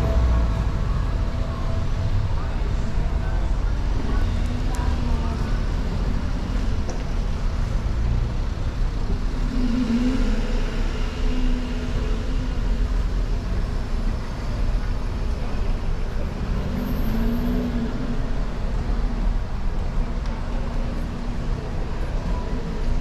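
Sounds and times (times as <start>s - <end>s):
cars rumbling by: 0.0s - 23.0s.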